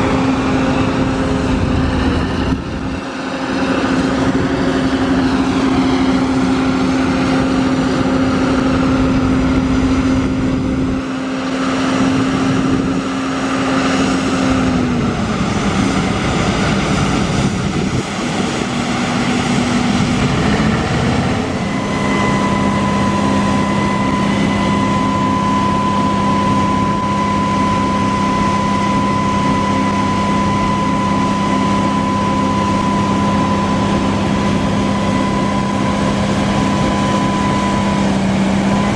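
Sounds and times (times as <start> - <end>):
diesel machinery humming: 0.0 - 38.9
steady high whine: 0.0 - 38.9.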